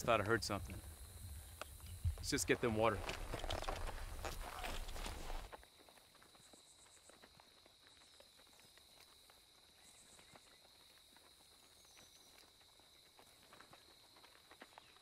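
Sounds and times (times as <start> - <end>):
horse hooves on dirt: 0.0 - 15.0.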